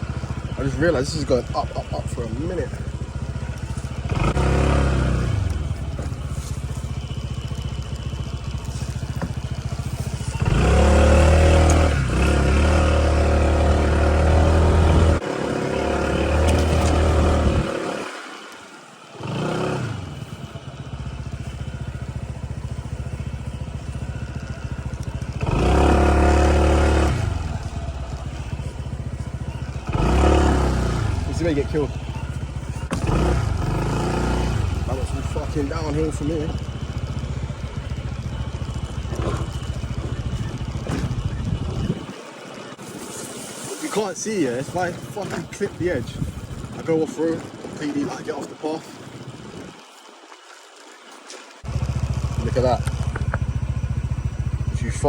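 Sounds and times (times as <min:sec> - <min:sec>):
motorbike engine labouring uphill: 0:00.0 - 0:51.0, 0:51.6 - 0:55.0.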